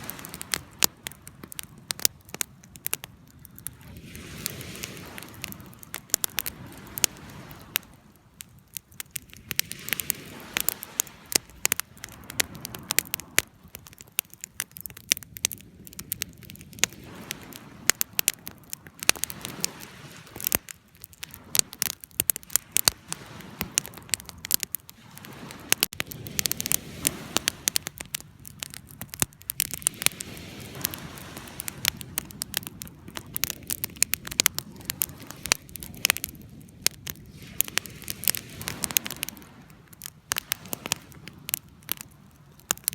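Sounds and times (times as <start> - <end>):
low rush of flames: 0.0 - 42.9
wood fire crackling and popping: 0.0 - 42.9.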